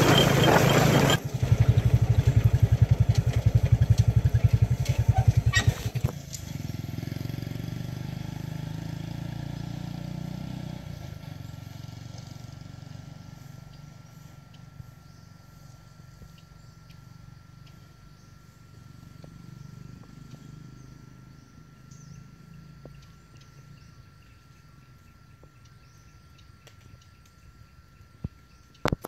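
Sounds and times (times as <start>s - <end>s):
small motorbike engine: 0.0s - 27.5s.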